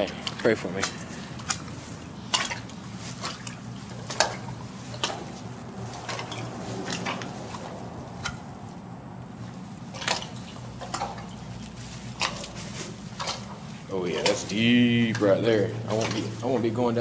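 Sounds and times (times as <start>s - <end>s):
boots splashing in water: 1.2s - 8.4s, 9.8s - 17.0s.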